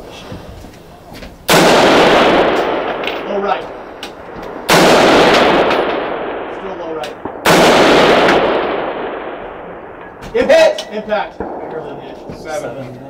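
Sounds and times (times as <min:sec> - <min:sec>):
rifle shots with echo: 0:01.5 - 0:12.7.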